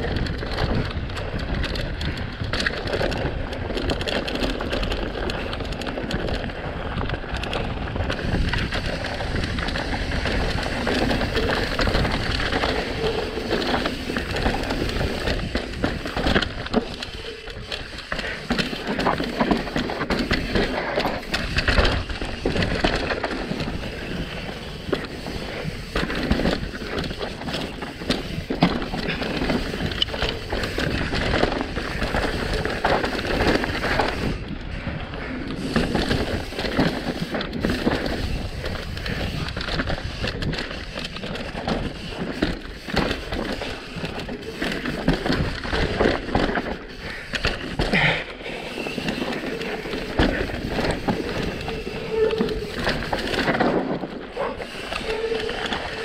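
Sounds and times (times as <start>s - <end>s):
bike clattering over bumps: 0.0s - 56.0s.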